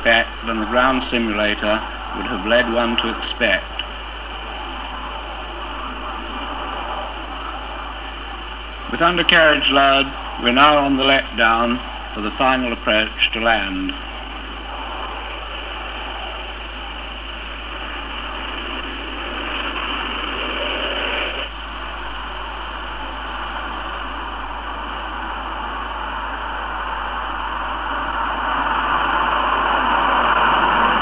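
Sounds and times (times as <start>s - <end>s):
jet aircraft engine rushing: 0.0s - 31.0s.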